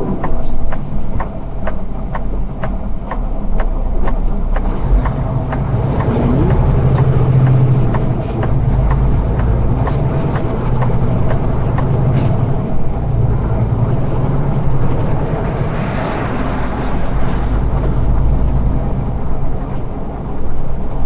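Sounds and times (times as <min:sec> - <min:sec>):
truck diesel engine droning: 0:00.0 - 0:21.0.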